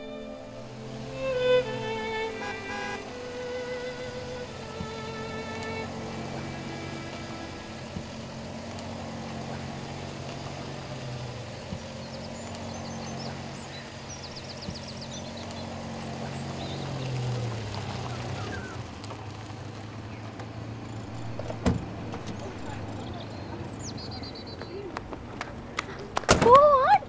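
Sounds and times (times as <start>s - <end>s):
birds chirping: 0.0s - 26.1s
car engine running low: 0.0s - 26.2s.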